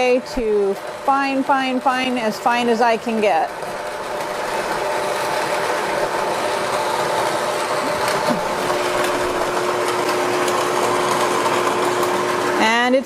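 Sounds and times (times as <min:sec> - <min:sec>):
grain mill grinding: 0:00.0 - 0:13.0.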